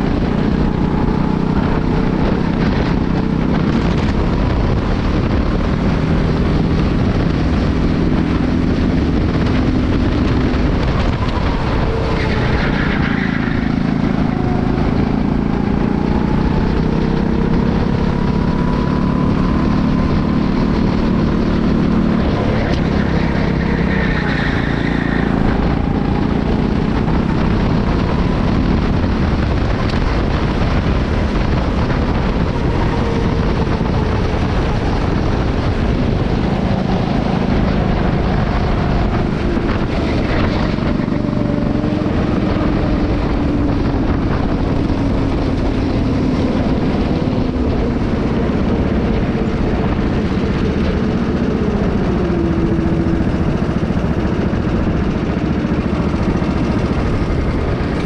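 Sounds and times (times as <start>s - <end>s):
go-kart engine running: 0.0s - 58.0s
low rumble of wind: 0.0s - 58.0s.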